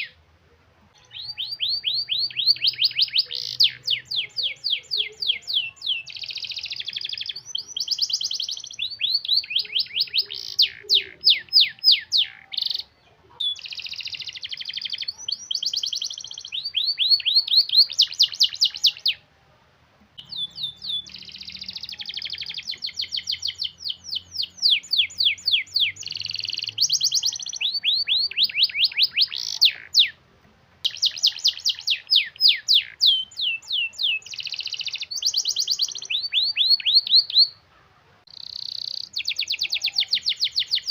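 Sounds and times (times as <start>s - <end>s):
canary singing trills: 0.0s - 0.2s, 0.9s - 19.3s, 20.2s - 30.2s, 30.8s - 40.9s.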